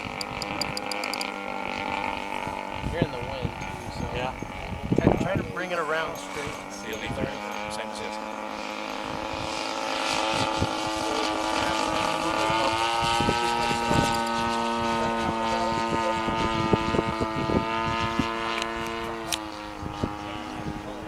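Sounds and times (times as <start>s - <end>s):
propeller aircraft engine: 0.0s - 3.6s, 5.6s - 21.0s.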